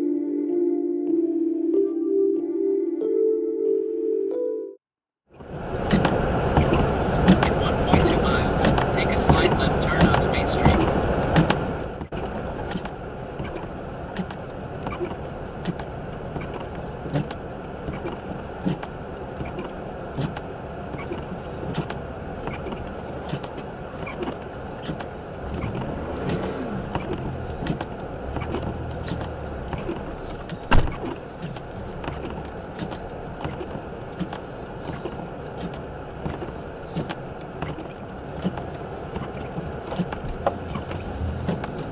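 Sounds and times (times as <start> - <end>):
road and engine noise: 5.2 - 41.9.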